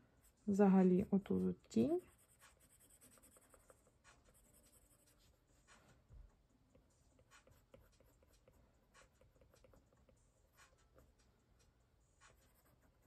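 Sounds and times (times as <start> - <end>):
stylus scratching on screen: 0.2 - 6.0, 6.8 - 13.0.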